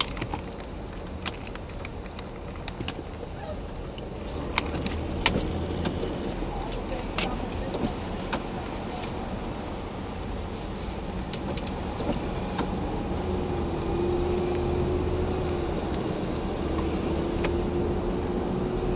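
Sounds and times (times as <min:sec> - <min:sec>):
vehicle engine and tyre noise: 0:00.0 - 0:18.9.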